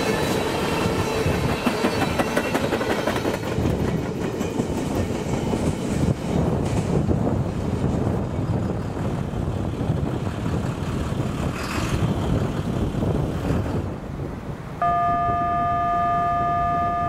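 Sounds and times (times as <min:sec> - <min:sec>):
freight train rumbling: 0:00.0 - 0:14.8
wind buffeting microphone: 0:00.1 - 0:14.8.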